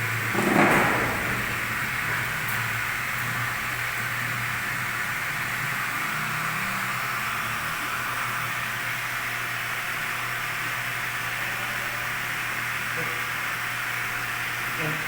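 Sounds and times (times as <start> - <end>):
pump hum: 0.0 - 15.0.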